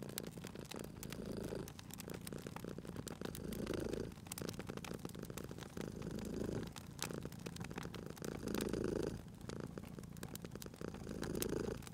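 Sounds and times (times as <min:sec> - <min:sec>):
cat purring: 0:00.0 - 0:11.9
wood fire crackling: 0:00.0 - 0:11.9.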